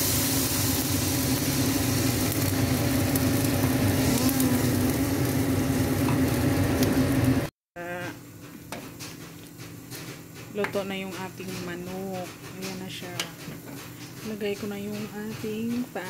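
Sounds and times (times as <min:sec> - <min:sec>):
wok sizzling and bubbling: 0:00.0 - 0:16.0.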